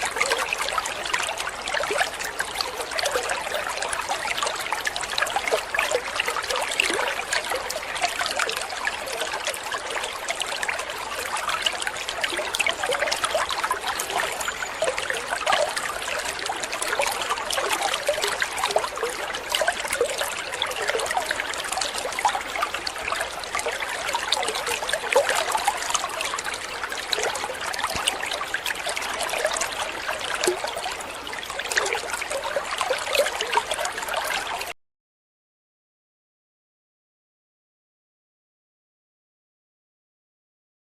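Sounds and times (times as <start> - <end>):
running water trickling and splashing: 0.0 - 34.8.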